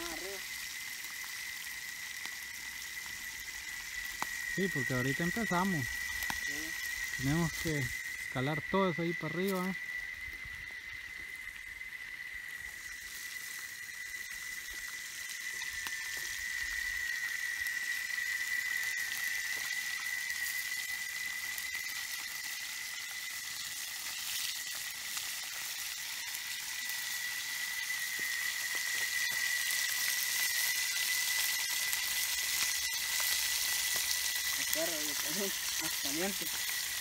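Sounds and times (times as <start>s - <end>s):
fish sizzling in a pan: 0.0s - 37.0s.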